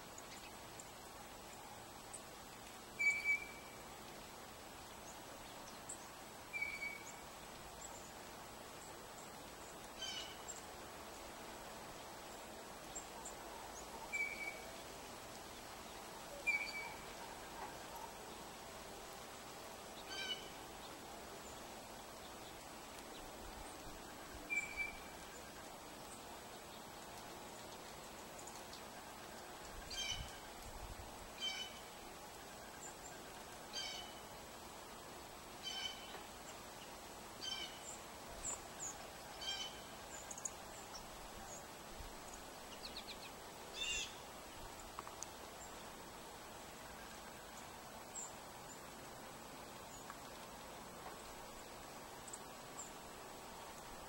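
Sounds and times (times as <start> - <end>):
outdoor background noise: 0.0 - 54.0
songbird chirp: 0.0 - 54.0.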